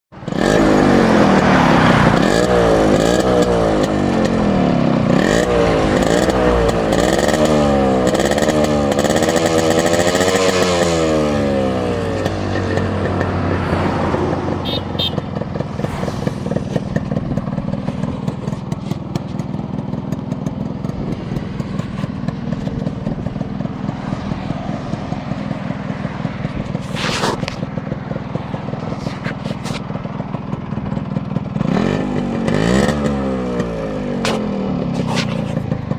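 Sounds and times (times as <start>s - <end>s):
motorcycle engine revving and idling: 0.1s - 35.9s.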